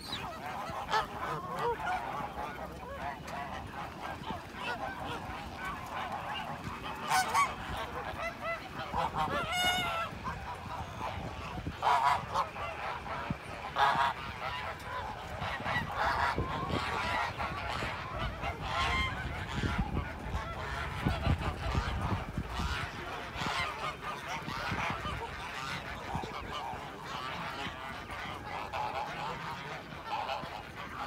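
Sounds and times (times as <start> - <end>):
flock of birds honking: 0.0 - 31.0.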